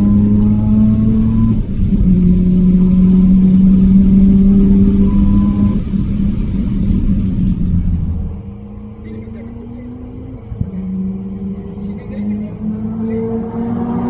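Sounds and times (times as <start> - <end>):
faint high whine: 0.0 - 14.0
rotary engine accelerating: 0.0 - 14.0.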